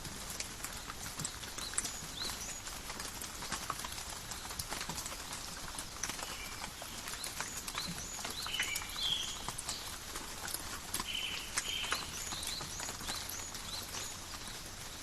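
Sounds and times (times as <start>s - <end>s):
rain patter on leaves: 0.0s - 15.0s
water drip clicks: 0.2s - 14.6s.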